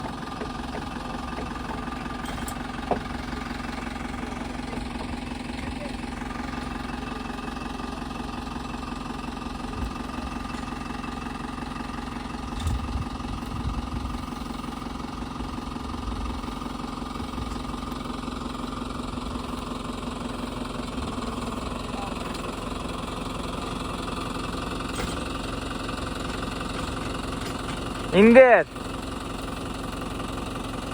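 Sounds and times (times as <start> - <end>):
tractor engine idling: 0.0 - 30.9.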